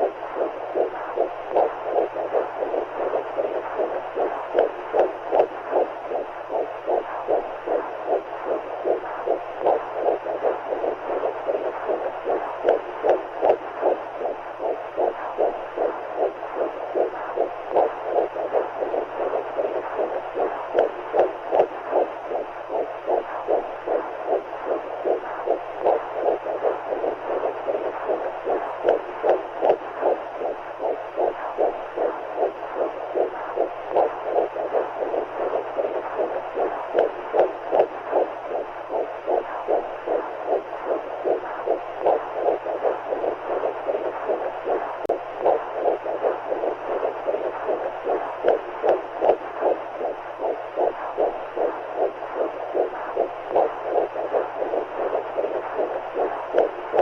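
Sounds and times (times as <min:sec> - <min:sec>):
low hum: 0:00.0 - 0:57.0
steady rushing noise: 0:00.0 - 0:57.0
whooshing heartbeat pulses: 0:00.0 - 0:57.0.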